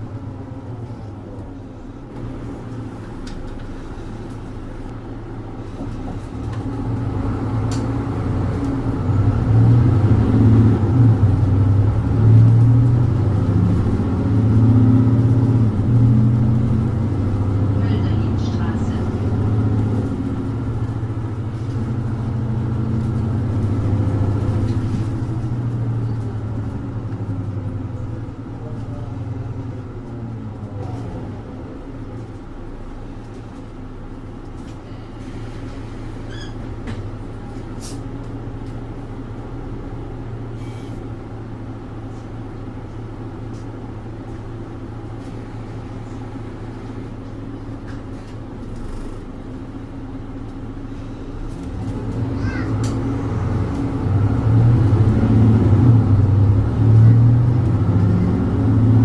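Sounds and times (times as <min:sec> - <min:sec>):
bus diesel engine pulling: 0:00.0 - 0:59.0.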